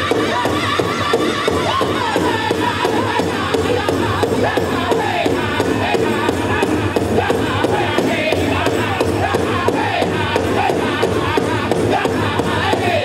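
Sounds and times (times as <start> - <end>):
big drum steady beat: 0.0 - 13.0
drum group singing: 0.0 - 13.0.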